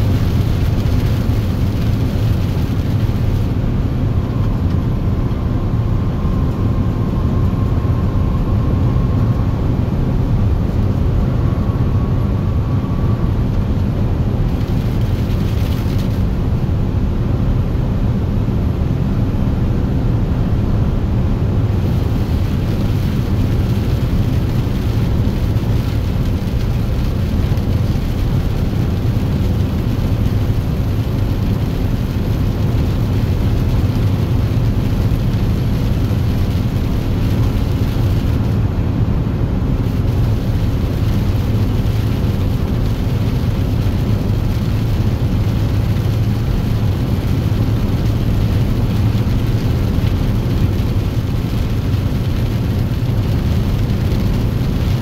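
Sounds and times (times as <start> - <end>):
vehicle engine and road drone: 0.0 - 55.0.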